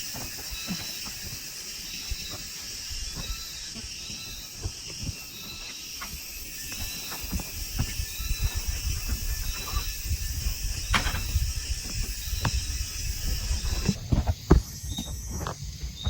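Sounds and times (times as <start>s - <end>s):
forest insects droning: 0.0s - 16.0s
low knocks and handling thumps: 2.1s - 16.0s.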